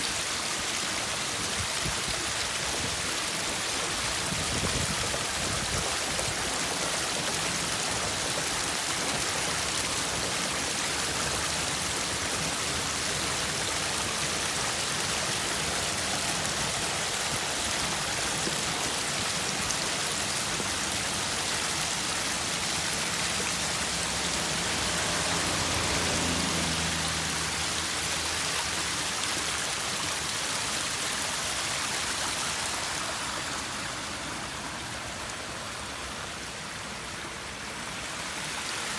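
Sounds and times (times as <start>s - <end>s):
light rain falling: 0.0s - 38.9s
water rushing down steps: 0.0s - 38.9s.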